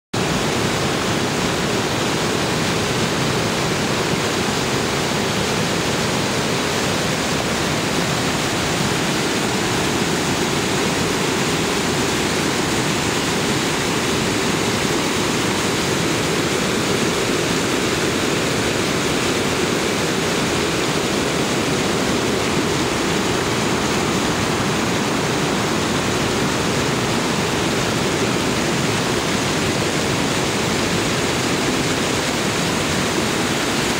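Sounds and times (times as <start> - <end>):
water rushing over rocks: 0.2 - 33.9.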